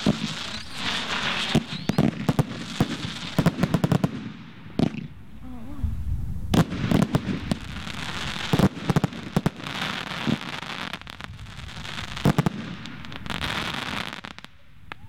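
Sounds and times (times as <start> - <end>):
fireworks bangs: 0.0 - 5.2, 6.5 - 15.0
fireworks crackling hiss: 0.0 - 5.8, 6.5 - 15.0.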